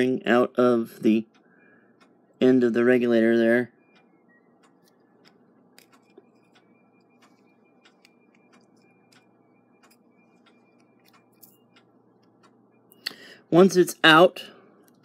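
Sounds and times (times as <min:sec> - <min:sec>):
clock ticking: 0:00.0 - 0:12.9
low steady hum: 0:00.0 - 0:15.0.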